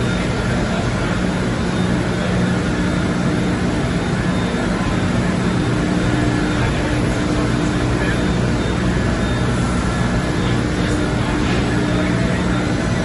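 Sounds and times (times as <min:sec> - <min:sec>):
textile machine running: 0:00.0 - 0:13.0.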